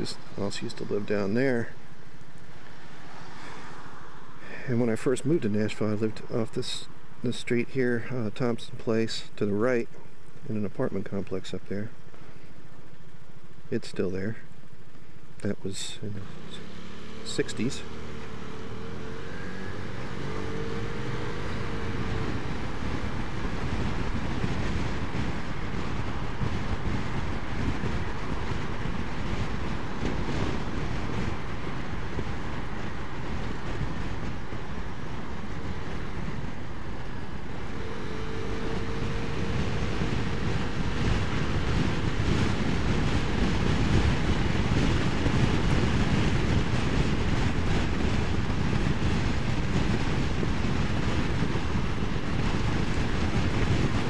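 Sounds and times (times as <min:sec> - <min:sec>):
wind rushing over microphone: 0:00.0 - 0:09.9, 0:10.6 - 0:54.0
scooter engine and tyre noise: 0:00.0 - 0:54.0.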